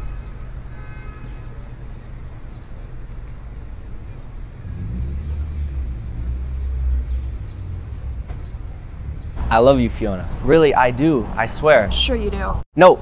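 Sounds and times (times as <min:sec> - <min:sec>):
street traffic rumble: 0:00.0 - 0:12.6.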